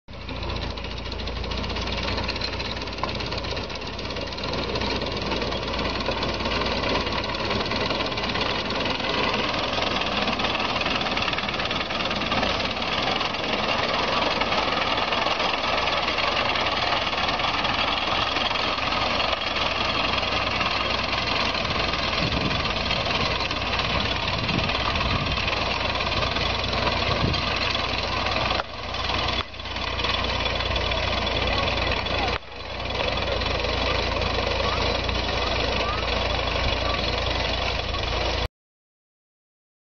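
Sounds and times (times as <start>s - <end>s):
mechanical reaper running: 0.2s - 38.5s.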